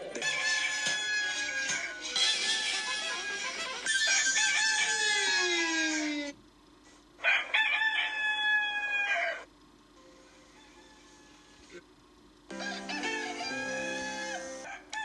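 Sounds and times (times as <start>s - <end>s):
rooster crowing: 0.2s - 6.3s, 7.2s - 9.5s, 10.4s - 11.8s, 12.5s - 15.0s.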